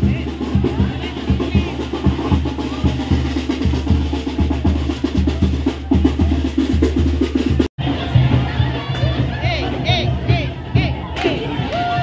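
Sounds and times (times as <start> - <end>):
drum beat: 0.0 - 12.0.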